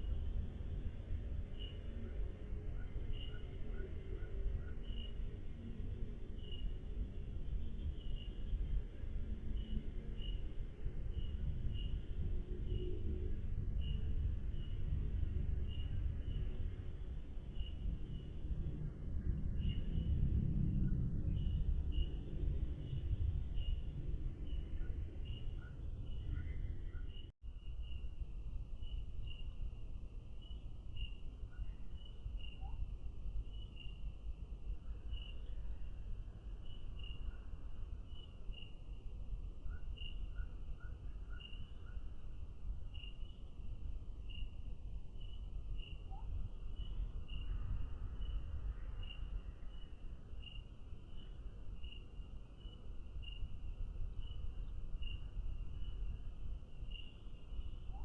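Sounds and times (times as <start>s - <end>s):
crickets chirping: 0.0s - 5.4s, 9.6s - 18.5s, 21.2s - 58.0s
low rumbling background noise: 0.0s - 58.0s.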